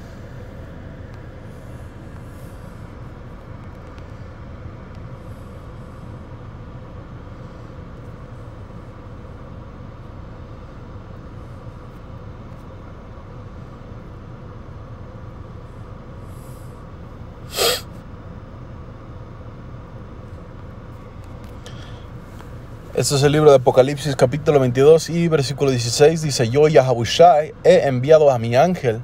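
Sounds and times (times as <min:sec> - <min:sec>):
faint steady tone: 0:00.0 - 0:29.0
low background hum: 0:00.0 - 0:29.0.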